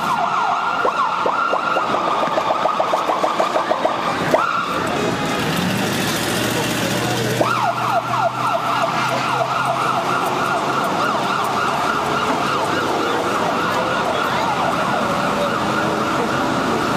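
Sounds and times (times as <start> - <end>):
ambulance siren yelping: 0.0 - 5.5, 7.4 - 16.9.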